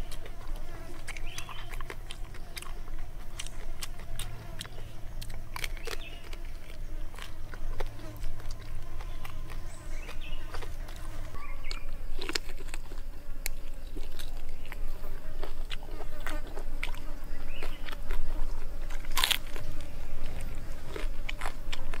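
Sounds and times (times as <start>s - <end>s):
crunching and chewing: 0.0s - 22.0s.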